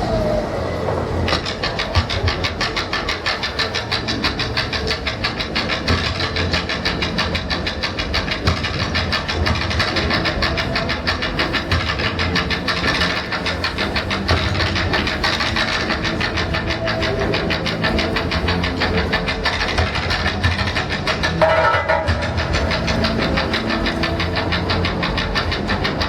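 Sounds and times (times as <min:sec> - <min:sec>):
percussion ensemble drumming: 0:01.3 - 0:26.0.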